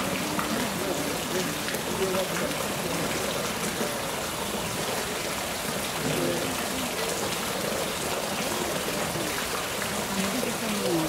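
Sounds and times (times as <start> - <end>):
faint voices: 0.0 - 11.0
running water rushing: 0.0 - 11.0.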